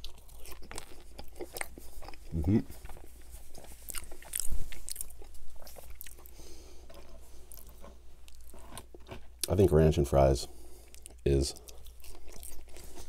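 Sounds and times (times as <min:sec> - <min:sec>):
crunchy chewing: 0:00.0 - 0:09.7, 0:10.8 - 0:13.0.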